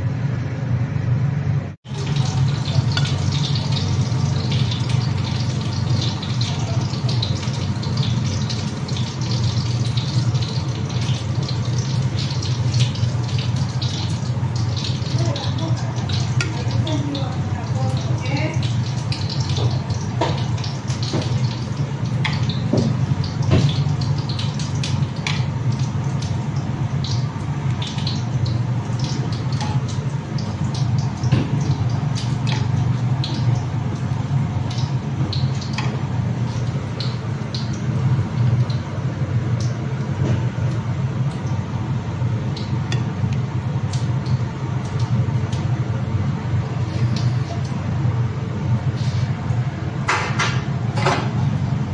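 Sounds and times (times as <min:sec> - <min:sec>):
rushing kitchen noise: 0:00.0 - 0:51.9.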